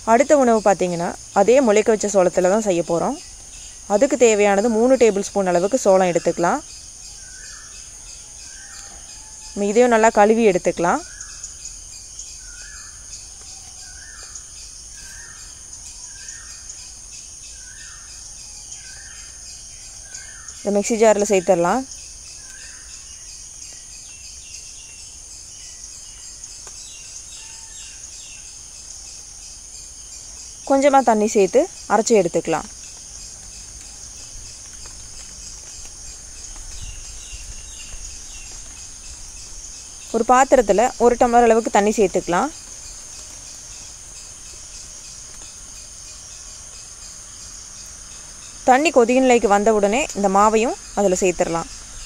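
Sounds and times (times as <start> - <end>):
high-pitched hiss: 0.0 - 52.0
insects trilling: 0.0 - 52.0.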